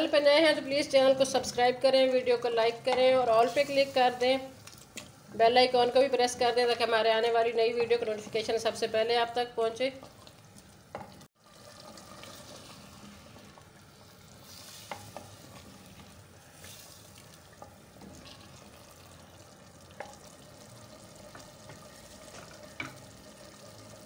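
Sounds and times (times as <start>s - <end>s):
faint sizzle of frying oil: 0.0s - 24.0s.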